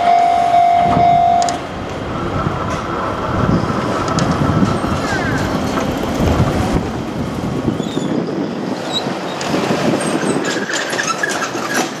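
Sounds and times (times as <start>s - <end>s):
electric train rumbling: 0.0s - 12.0s
street noise: 0.0s - 12.0s.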